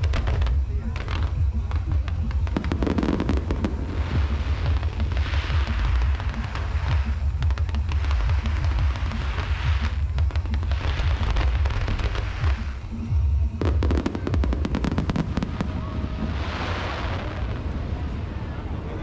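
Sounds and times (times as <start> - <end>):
firework shells booming: 0.0 - 18.6
firework crackling: 0.0 - 19.0.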